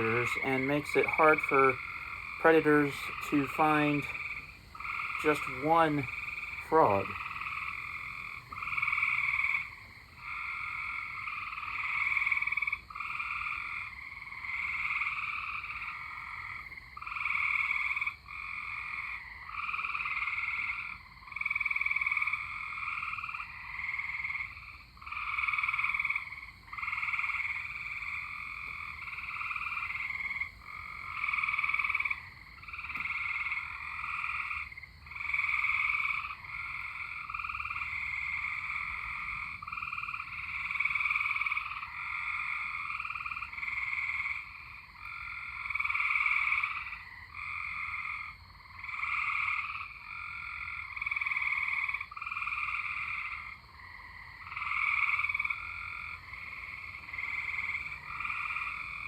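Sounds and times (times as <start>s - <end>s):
tree frogs trilling: 0.0s - 59.0s.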